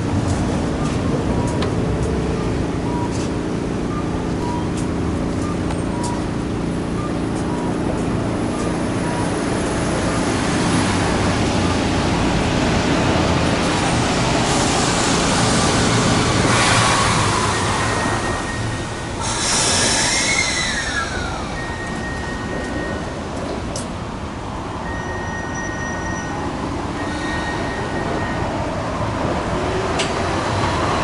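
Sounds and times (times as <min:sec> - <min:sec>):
street traffic: 0:00.0 - 0:31.0
tram humming: 0:00.0 - 0:31.0.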